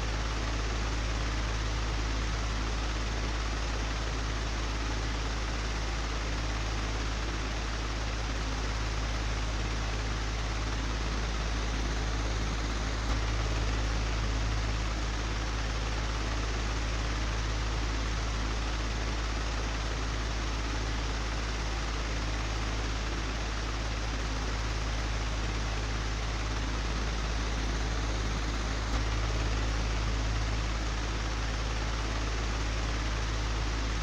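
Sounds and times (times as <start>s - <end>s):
electric fan running: 5.8s - 34.0s.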